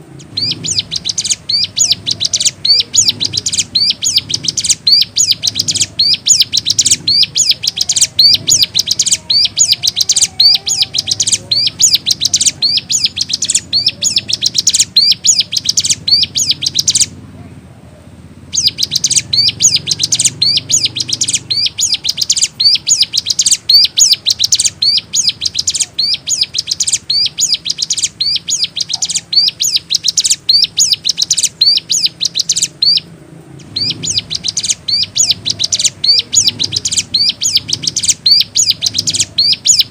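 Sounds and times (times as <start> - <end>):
bird singing high sharp notes: 0.2 - 17.2, 18.5 - 39.9.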